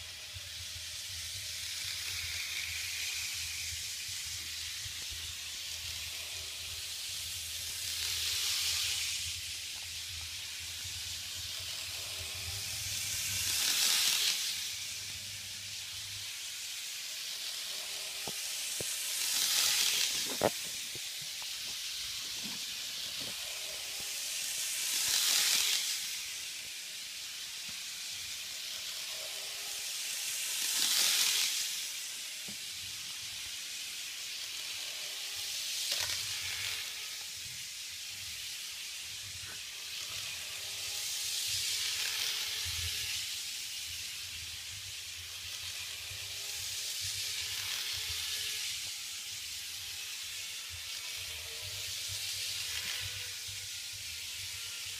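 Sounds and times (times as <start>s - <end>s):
model train running on track: 0.0s - 54.9s.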